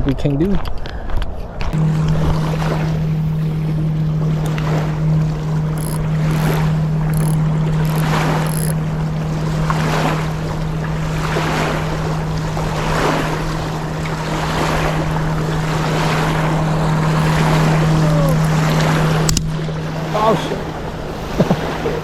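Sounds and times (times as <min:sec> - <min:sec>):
steady low hum: 0:01.7 - 0:22.0
river water lapping: 0:01.8 - 0:22.0.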